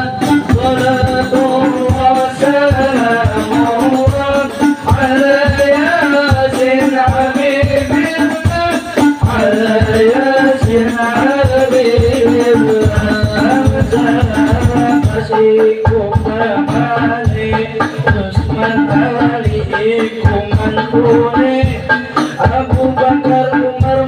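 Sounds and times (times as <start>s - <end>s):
frame drums in fast rhythm: 0.0s - 24.0s
man singing into microphone: 0.0s - 24.0s.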